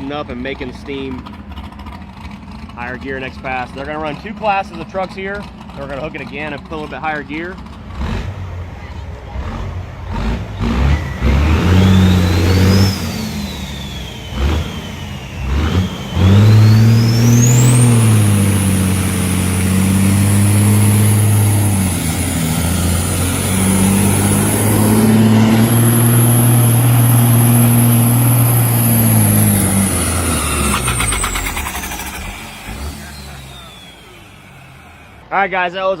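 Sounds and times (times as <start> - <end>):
diesel truck engine under heavy load: 0.0 - 35.4.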